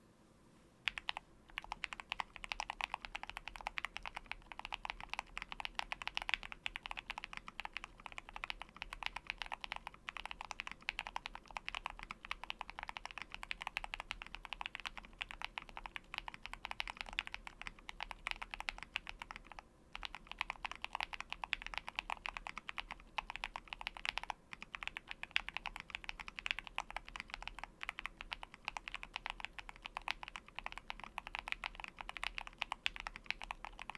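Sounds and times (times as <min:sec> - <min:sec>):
mechanical keyboard typing: 0:00.9 - 0:33.9.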